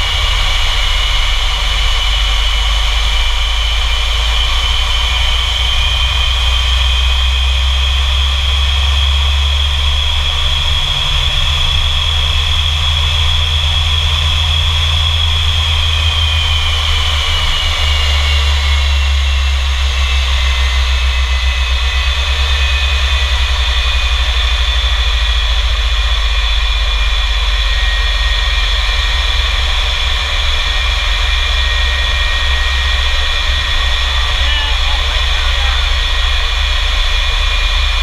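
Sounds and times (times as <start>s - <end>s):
jet engines whining and rumbling: 0.0s - 38.0s.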